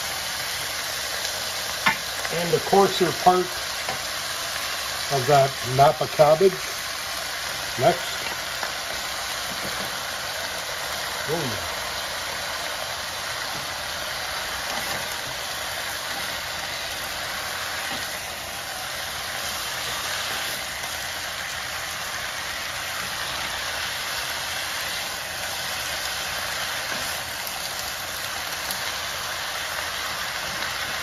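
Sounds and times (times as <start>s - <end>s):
stir-fry sizzling in a frying pan: 0.0s - 31.0s.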